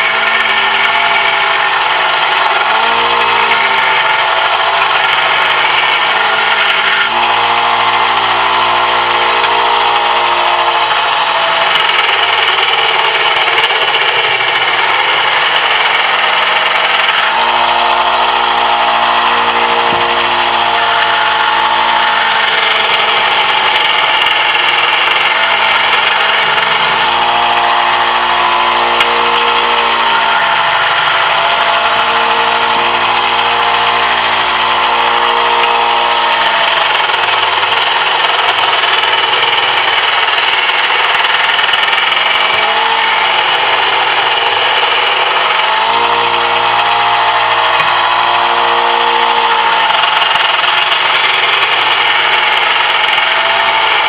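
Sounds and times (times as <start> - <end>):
electric power tool on brass: 0.0 - 54.0.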